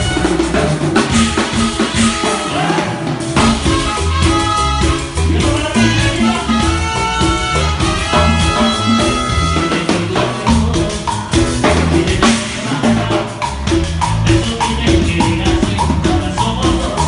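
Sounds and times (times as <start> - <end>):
bass line: 0.0 - 17.0
drum kit and percussion hits: 0.0 - 17.0
live salsa band playing: 0.0 - 17.0.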